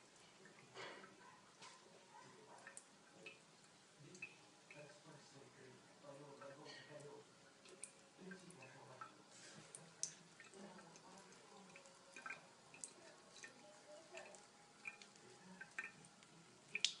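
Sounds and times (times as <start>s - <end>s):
cat drinking water: 0.0s - 17.0s
water dripping: 0.0s - 17.0s.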